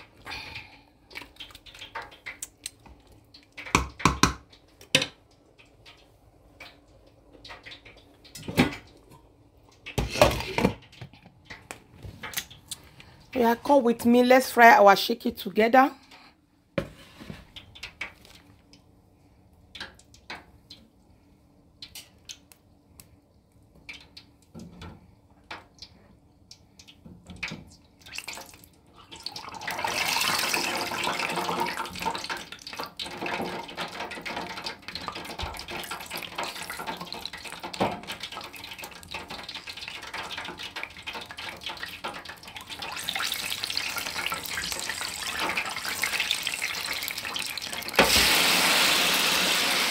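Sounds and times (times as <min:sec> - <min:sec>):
chicken sizzling in deep fryer: 0:00.0 - 0:13.8, 0:23.7 - 0:49.9.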